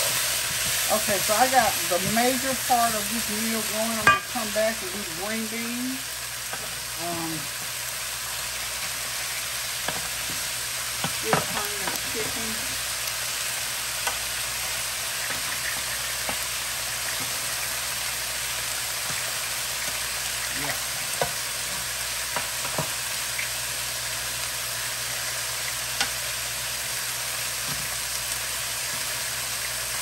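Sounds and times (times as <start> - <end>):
food sizzling in frying pans: 0.0 - 30.0.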